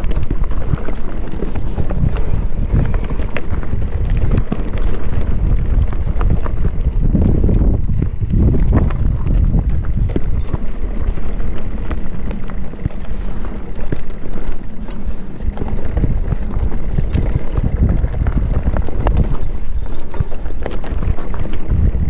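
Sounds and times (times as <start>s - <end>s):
bike rattling over rocky ground: 0.0s - 22.0s
wind buffeting microphone: 0.0s - 22.0s.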